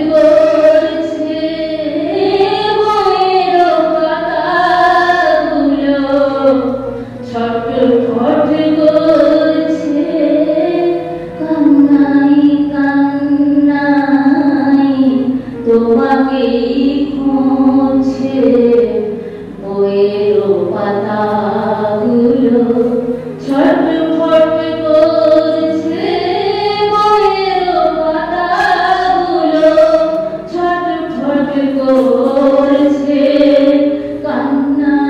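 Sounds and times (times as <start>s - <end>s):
woman singing: 0.0s - 35.0s.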